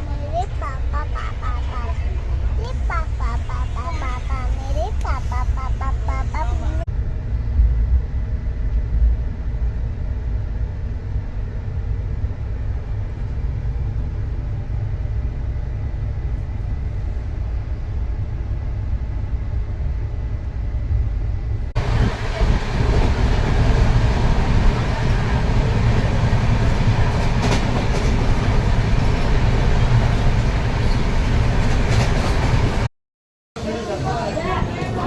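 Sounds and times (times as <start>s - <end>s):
train running inside carriage: 0.0s - 32.9s, 33.6s - 35.0s.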